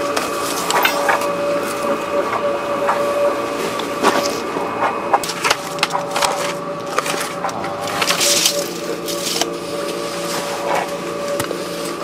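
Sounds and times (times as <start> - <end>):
construction machinery humming: 0.0 - 12.0
sharp knocks and crunching: 0.1 - 12.0.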